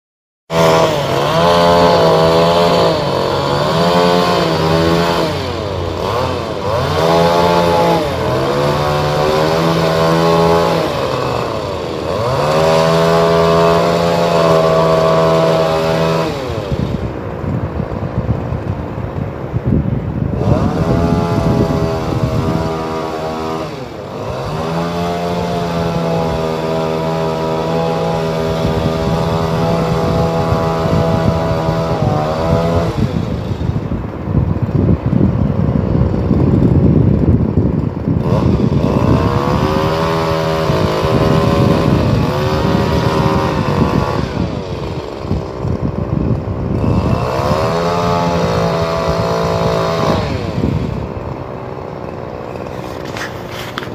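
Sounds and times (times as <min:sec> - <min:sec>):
two-stroke engine revving: 0:00.5 - 0:53.9.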